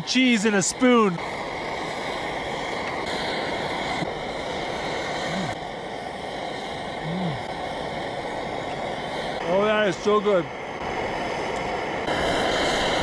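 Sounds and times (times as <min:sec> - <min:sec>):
gas flame roaring: 0:00.0 - 0:13.0.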